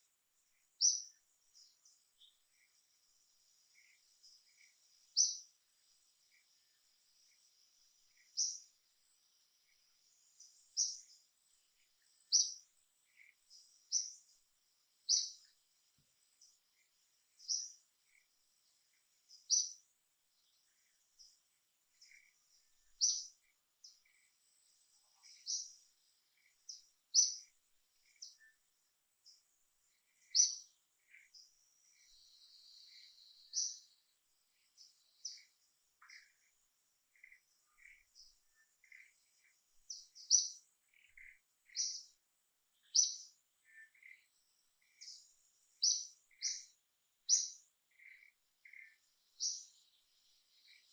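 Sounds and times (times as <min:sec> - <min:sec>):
faint high insect drone: 0:00.0 - 0:50.9.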